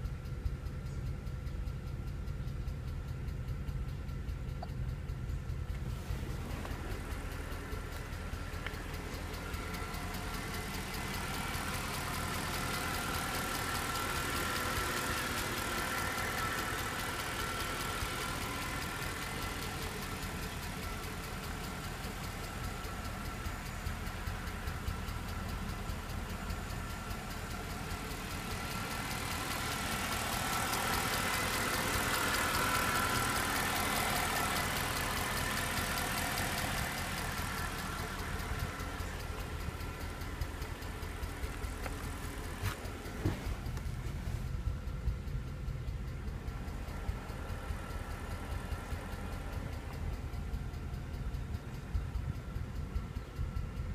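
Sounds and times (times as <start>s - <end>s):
car engine idling: 0.0s - 53.9s
fast continuous engine ticking: 0.0s - 53.9s.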